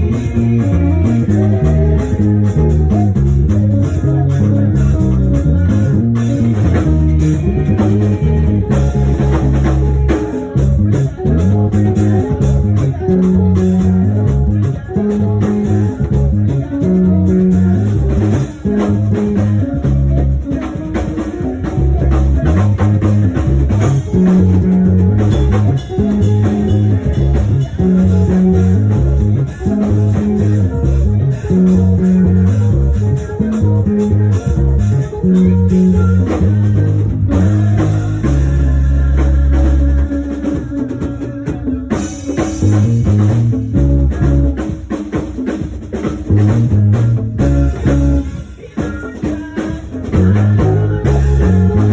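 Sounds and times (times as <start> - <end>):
bass line: 0.0 - 45.0, 45.9 - 48.8, 49.4 - 51.9
instrumental band music: 0.0 - 51.9.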